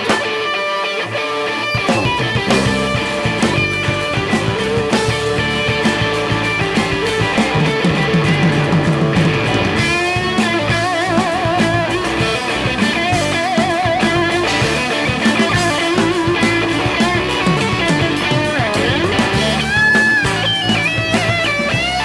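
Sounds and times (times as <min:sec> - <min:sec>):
electric guitar lead with vibrato: 0:00.0 - 0:22.0
rock band drums and rhythm: 0:00.0 - 0:22.0.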